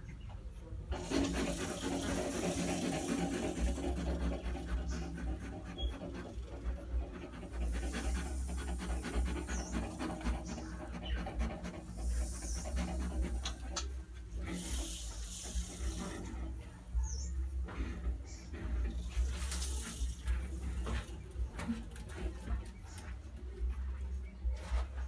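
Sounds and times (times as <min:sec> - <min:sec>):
porcupines chewing: 0:00.8 - 0:25.0.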